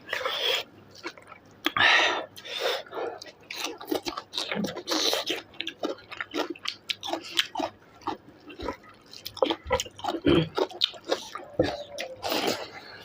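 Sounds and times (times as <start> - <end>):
person chewing with wet mouth sounds: 0.0 - 13.0.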